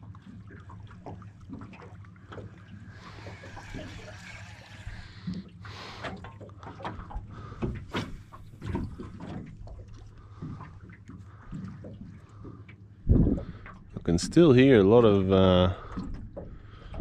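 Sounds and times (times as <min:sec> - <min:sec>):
water knocks and splashes on boat: 0:00.0 - 0:17.0.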